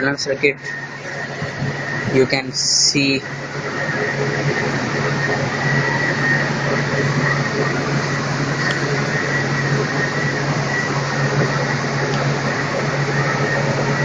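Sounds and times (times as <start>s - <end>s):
low drone: 0.0s - 14.0s
mechanical hum: 0.0s - 14.0s
thin high whine: 0.0s - 14.0s.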